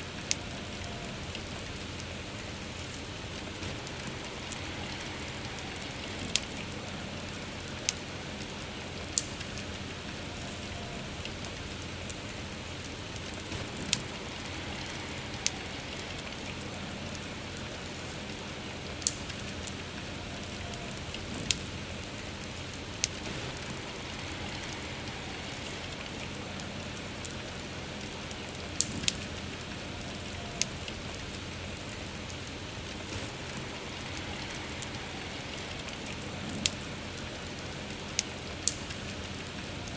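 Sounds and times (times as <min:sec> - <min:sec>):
campfire crackling and popping: 0:00.0 - 0:39.9
steady rain hiss: 0:00.0 - 0:39.9.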